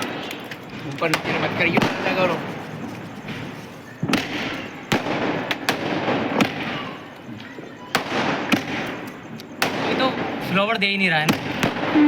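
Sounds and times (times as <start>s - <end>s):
fireworks bangs: 0.0s - 12.0s
steady background hiss: 0.0s - 12.0s.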